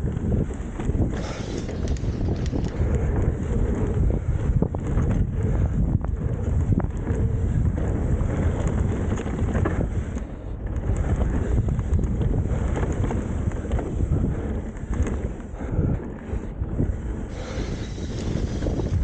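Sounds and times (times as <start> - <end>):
bike knocks and rattles: 0.0 - 19.0
tyres running over dirt and rock: 0.0 - 19.0
wind buffeting microphone: 0.0 - 19.0.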